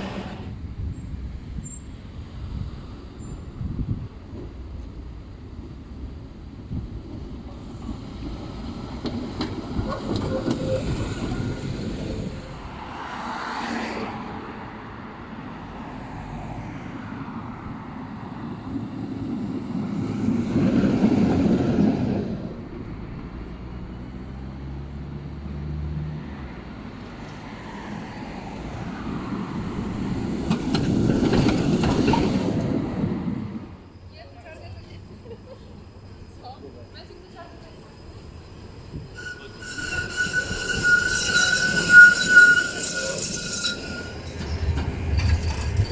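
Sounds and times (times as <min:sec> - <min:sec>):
tram rolling on rails: 0:00.0 - 0:45.9.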